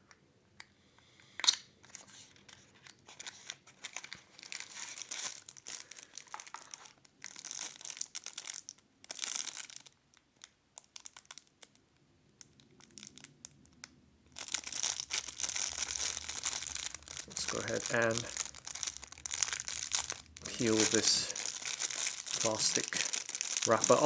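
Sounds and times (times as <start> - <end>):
packaging rustling and crinkling: 1.8 - 11.8, 12.4 - 24.0.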